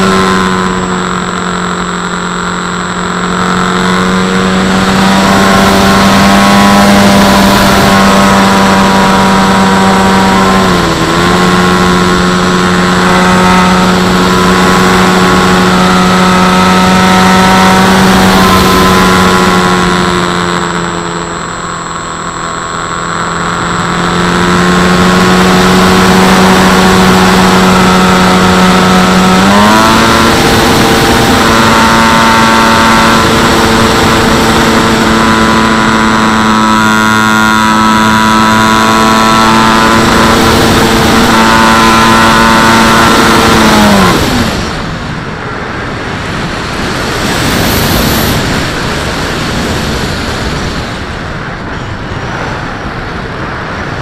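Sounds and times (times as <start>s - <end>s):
electric motor and propeller: 0.0s - 54.0s.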